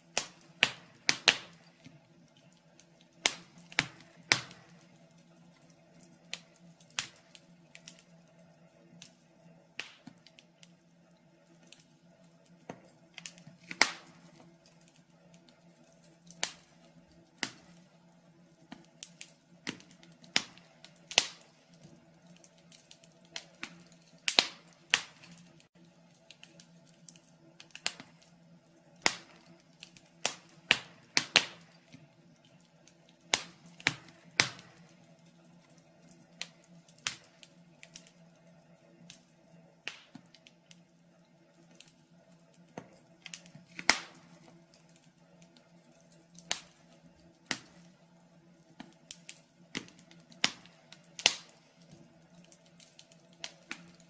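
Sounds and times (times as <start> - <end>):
low steady hum: 0.0 - 54.0
wood fire crackling and popping: 0.0 - 54.0.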